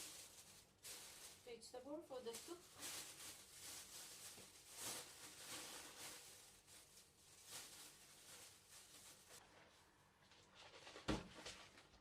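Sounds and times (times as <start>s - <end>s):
faint rustling and handling: 0.0s - 12.0s.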